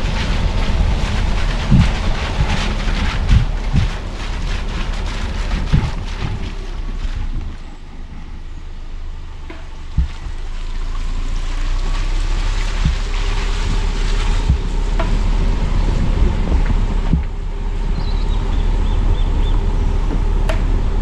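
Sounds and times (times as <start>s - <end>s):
car road rumble: 0.0s - 21.0s
road hiss: 0.0s - 21.0s.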